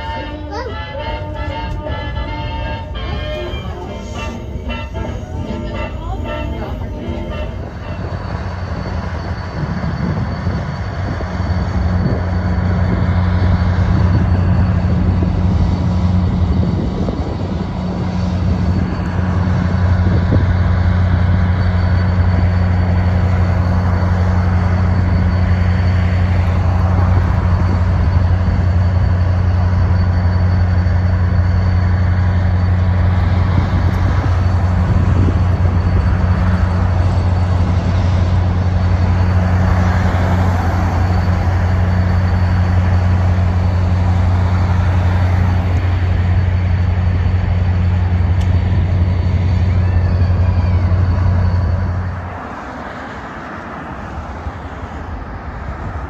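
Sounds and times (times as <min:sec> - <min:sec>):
diesel locomotive engine droning: 0:00.0 - 0:56.0.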